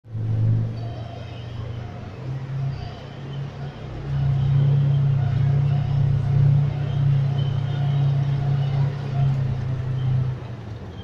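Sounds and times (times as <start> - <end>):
heavy vehicle engine droning: 0.1 - 11.0.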